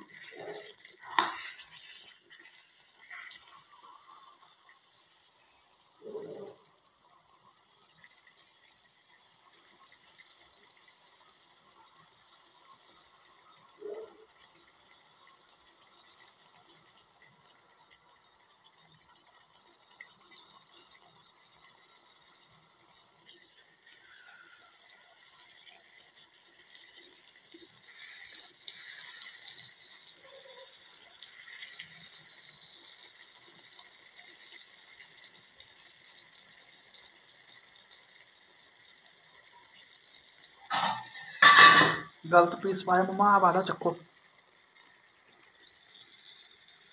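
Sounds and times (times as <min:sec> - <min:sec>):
curry bubbling: 0:00.0 - 0:46.9.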